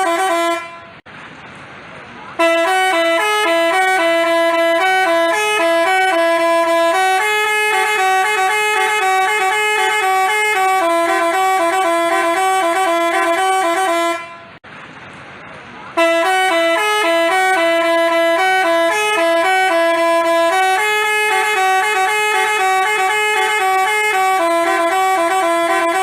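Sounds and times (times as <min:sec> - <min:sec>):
multi-tone bus horn melody: 0:00.0 - 0:01.0, 0:02.3 - 0:14.6, 0:15.9 - 0:26.0.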